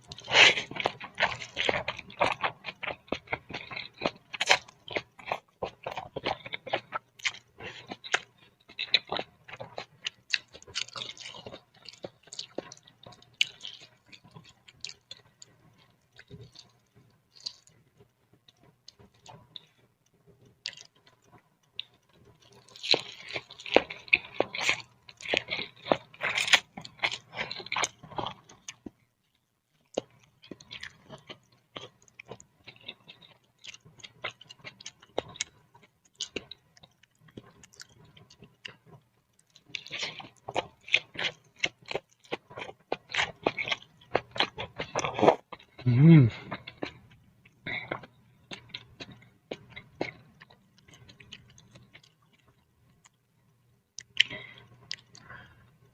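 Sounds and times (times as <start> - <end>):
wet chewing: 0.0 - 53.2, 54.0 - 55.7.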